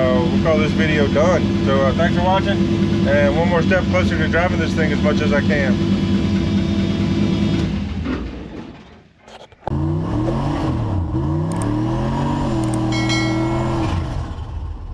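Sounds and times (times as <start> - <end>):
engine revving through gears: 0.0 - 8.1, 9.6 - 14.9.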